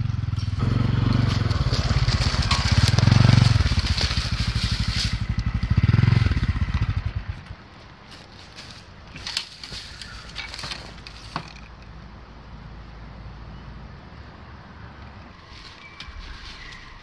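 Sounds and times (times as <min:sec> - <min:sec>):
riding gear rustling: 0:00.4 - 0:12.4, 0:14.8 - 0:17.0.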